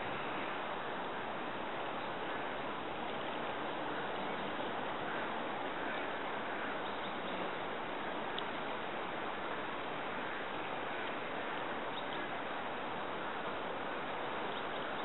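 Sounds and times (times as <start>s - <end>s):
fast-flowing river rushing: 0.0s - 15.0s.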